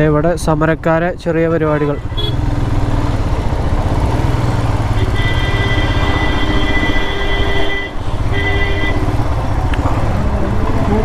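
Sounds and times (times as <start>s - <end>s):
wind and road noise: 0.0s - 11.0s
motorcycle engine running: 2.0s - 11.0s.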